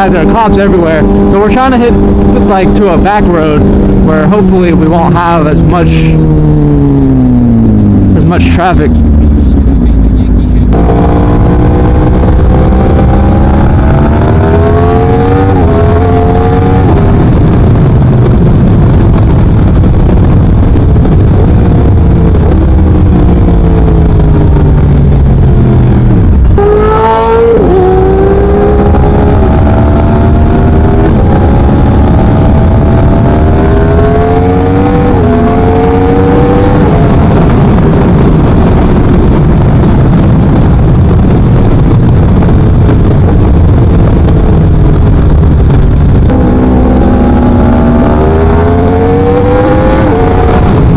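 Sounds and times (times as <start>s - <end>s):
motorcycle engine shifting gears: 0.0s - 4.4s, 5.6s - 50.9s.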